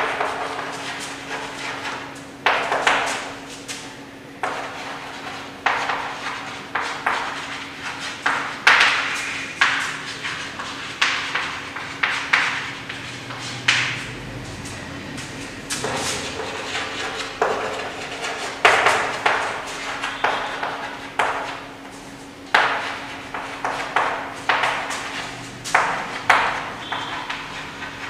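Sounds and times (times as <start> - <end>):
chalk scratching on chalkboard: 0.0 - 28.0.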